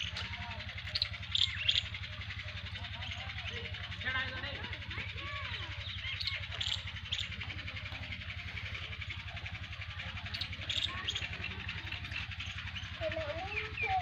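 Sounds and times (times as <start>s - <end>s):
engine running with low throb: 0.0s - 14.0s.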